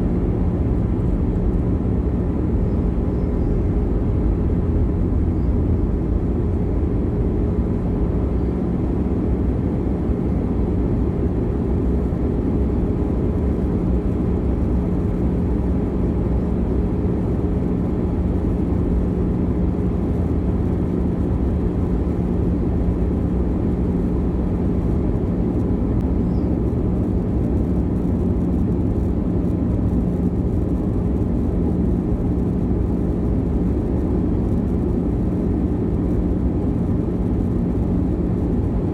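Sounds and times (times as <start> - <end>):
constant low hum: 0.0 - 38.9
jet airliner cabin drone: 0.0 - 38.9.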